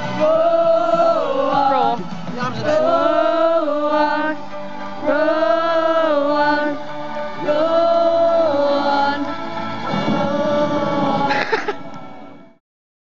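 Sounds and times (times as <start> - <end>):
pop song with sung notes: 0.0 - 12.6.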